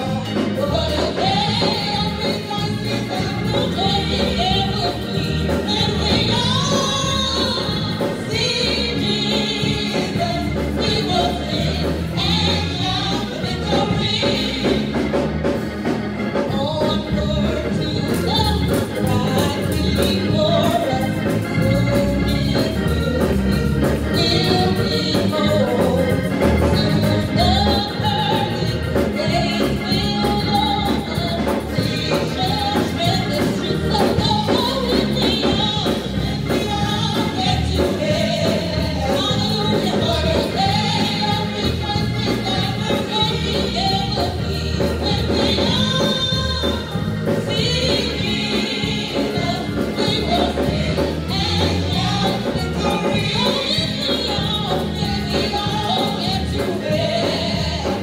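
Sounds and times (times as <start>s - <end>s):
gospel singing with accompaniment: 0.0s - 58.0s.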